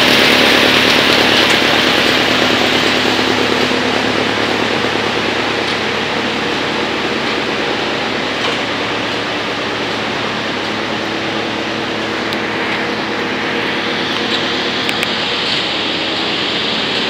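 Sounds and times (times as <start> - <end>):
low hum: 0.0 - 17.0
wood chipper running: 0.0 - 17.0.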